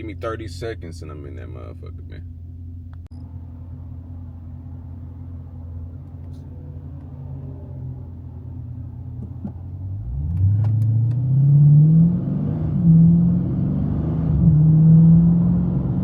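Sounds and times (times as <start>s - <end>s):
car engine rumbling and accelerating: 0.0s - 16.0s.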